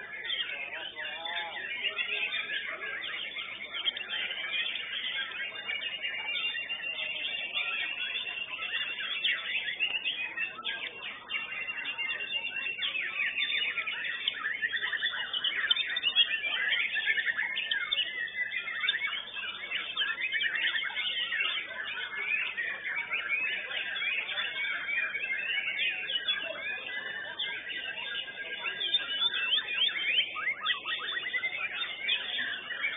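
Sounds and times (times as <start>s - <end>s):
birds singing whistles and trills: 0.0s - 32.9s.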